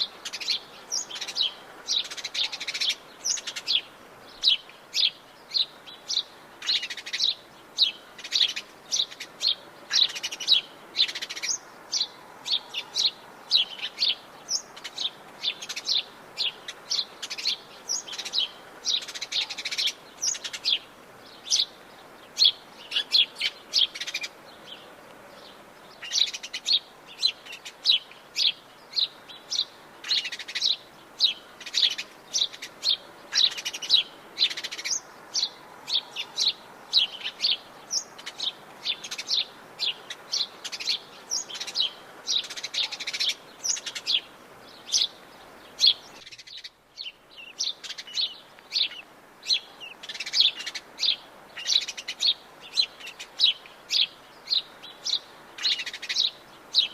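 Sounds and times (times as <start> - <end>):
faint steady hiss: 0.0 - 56.9
songbirds chirping: 0.0 - 56.9.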